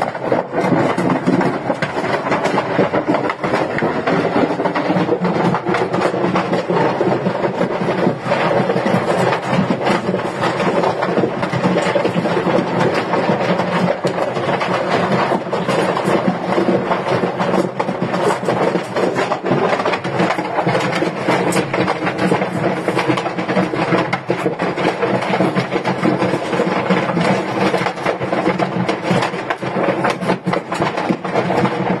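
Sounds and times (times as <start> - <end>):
large fire crackling and popping: 0.0 - 32.0.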